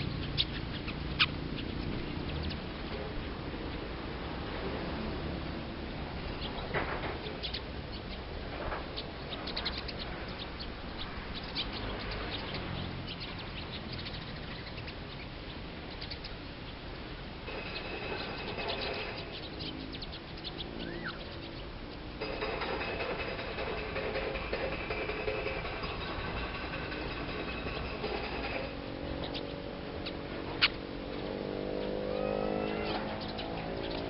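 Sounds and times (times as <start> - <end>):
bird chirping: 0.0 - 3.9, 6.2 - 8.3, 8.9 - 16.8, 17.5 - 34.0.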